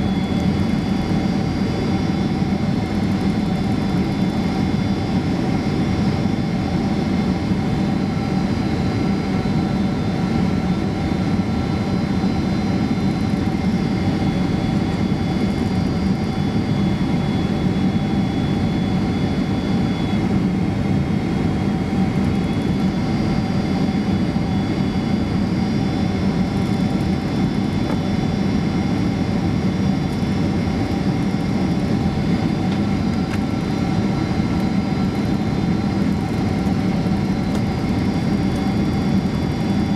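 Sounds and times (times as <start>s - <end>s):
jet engine and airflow roar: 0.0s - 39.9s.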